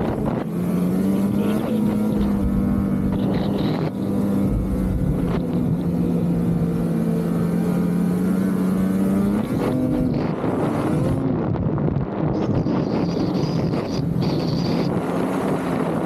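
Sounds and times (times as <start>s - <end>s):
snowmobile engine running: 0.0s - 16.0s.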